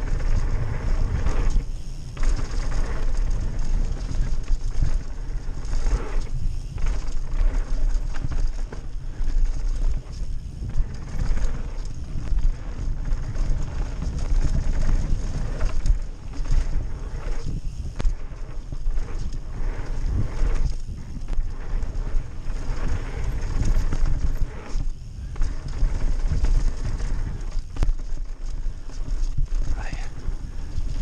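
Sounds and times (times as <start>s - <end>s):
bike rattling and clattering: 0.0s - 31.0s
bike tyres rumbling over dirt: 0.0s - 31.0s
wind buffeting microphone: 0.0s - 31.0s.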